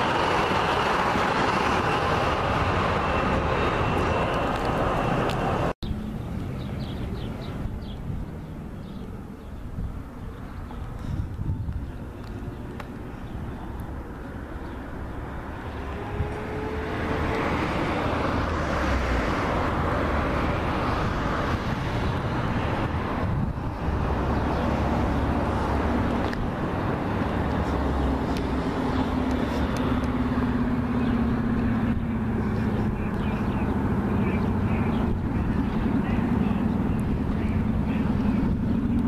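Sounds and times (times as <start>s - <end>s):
low engine tone: 0.0s - 39.0s
road traffic rushing: 0.0s - 39.0s.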